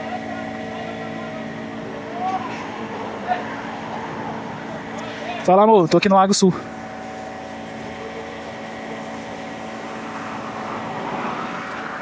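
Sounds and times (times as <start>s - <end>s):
mechanical hum with held tones: 0.0s - 12.0s
noisy rumble: 0.0s - 12.0s.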